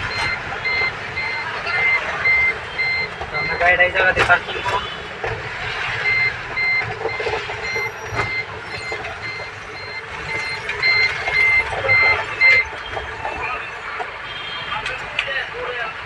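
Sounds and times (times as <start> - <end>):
reversing alarm beeping: 0.0 - 15.7
street noise: 0.0 - 16.0
vehicle engine: 0.0 - 16.0.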